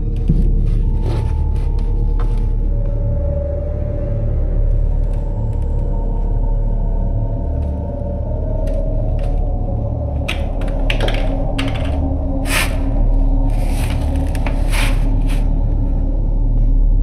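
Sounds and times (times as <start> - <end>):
low rumbling suspense drone: 0.0 - 17.0.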